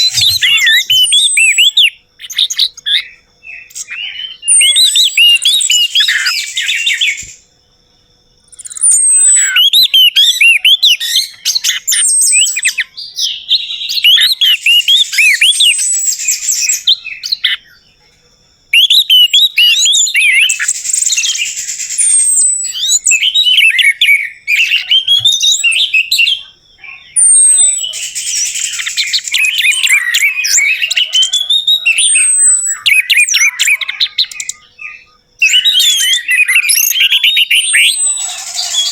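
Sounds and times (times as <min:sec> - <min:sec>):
thrush singing whistled notes: 0:00.0 - 0:18.0, 0:18.7 - 0:38.9.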